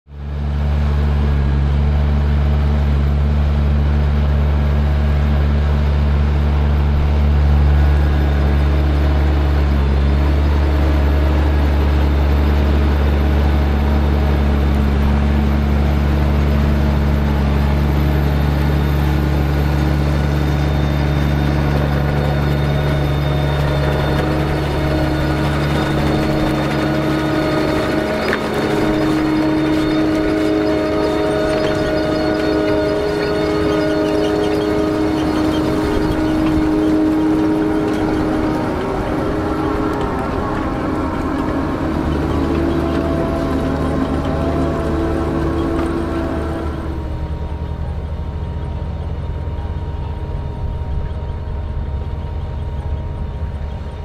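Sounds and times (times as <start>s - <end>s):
tractor diesel engine running: 0.1s - 54.0s.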